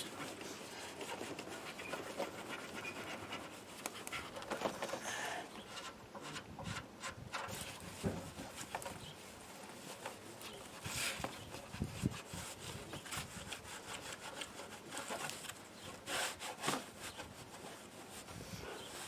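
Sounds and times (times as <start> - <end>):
rubbing and scraping: 0.0 - 19.0.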